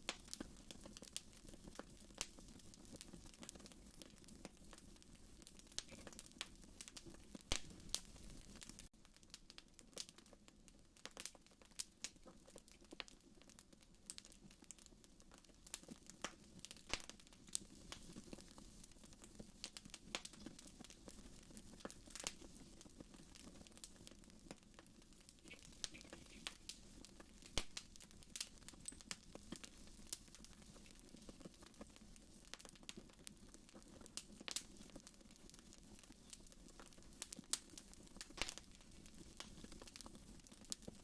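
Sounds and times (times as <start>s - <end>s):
low background noise: 0.0s - 41.0s
wood fire crackling: 0.0s - 41.0s.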